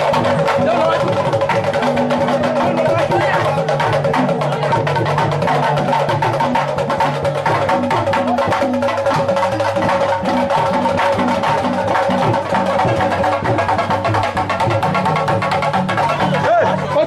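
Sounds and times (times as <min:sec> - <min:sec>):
fast drumming: 0:00.0 - 0:17.0.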